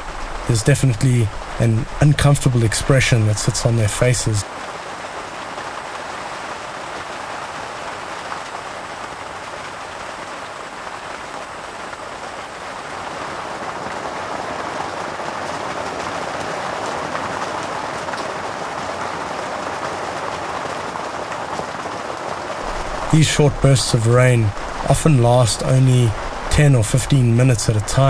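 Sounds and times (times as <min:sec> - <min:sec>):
rain falling on grass: 0:00.0 - 0:28.0.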